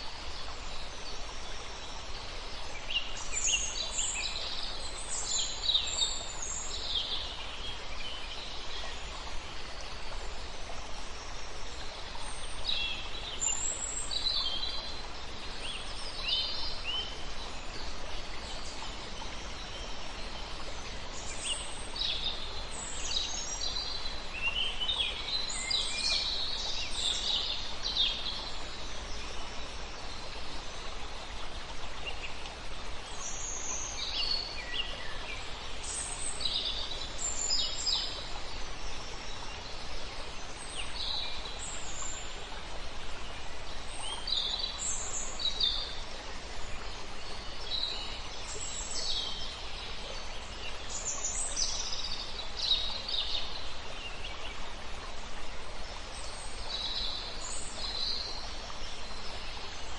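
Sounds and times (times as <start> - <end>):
river flowing: 0.0 - 59.9.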